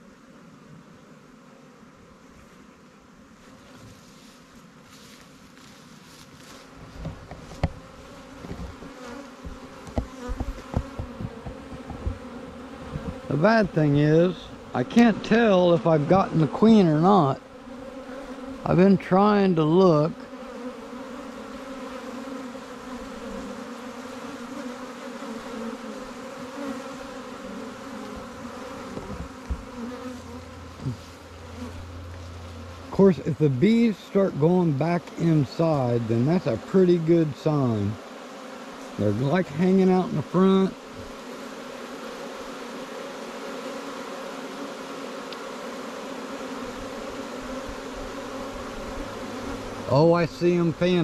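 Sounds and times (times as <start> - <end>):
bees buzzing: 0.0 - 51.0.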